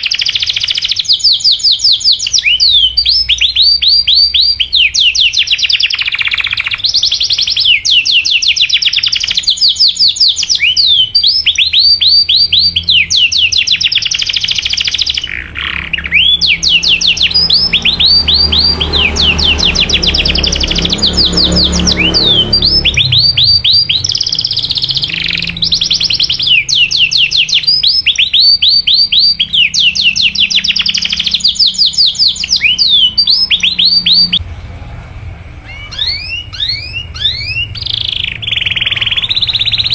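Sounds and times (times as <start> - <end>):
canary trilling: 0.0 - 34.4, 35.6 - 39.9.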